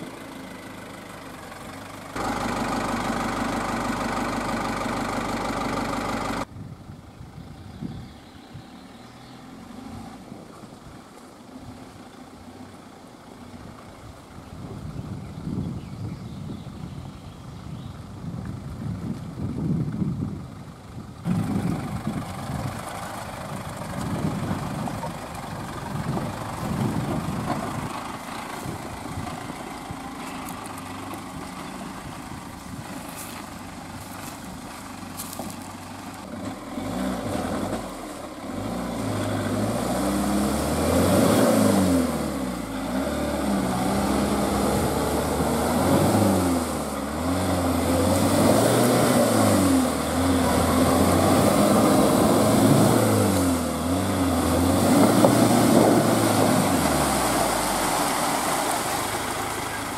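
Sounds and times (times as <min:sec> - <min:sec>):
van engine labouring: 0:00.0 - 0:07.7, 0:19.3 - 0:59.9.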